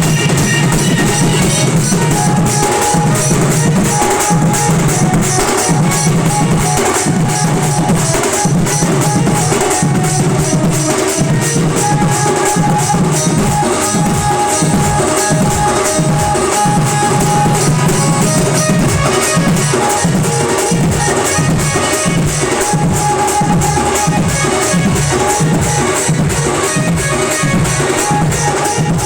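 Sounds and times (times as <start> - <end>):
band playing instrumental tune: 0.0 - 29.0
loud drums beating: 0.0 - 29.0.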